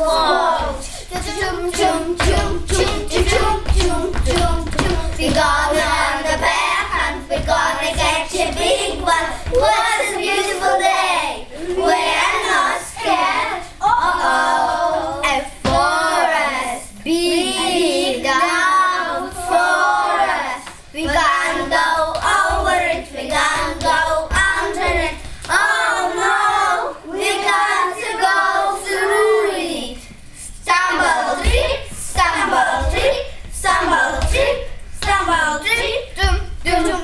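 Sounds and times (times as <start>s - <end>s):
children singing in unison: 0.0s - 29.9s, 30.7s - 37.0s.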